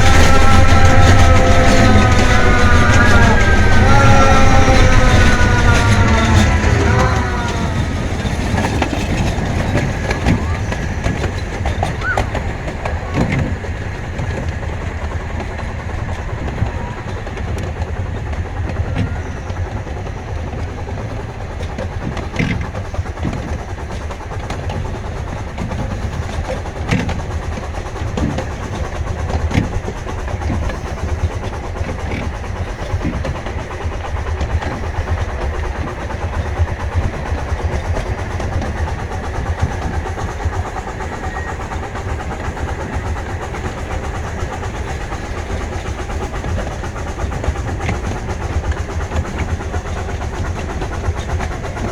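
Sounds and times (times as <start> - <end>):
sharp track clicks: 0.0 - 51.9
train rumbling on track: 0.0 - 51.9.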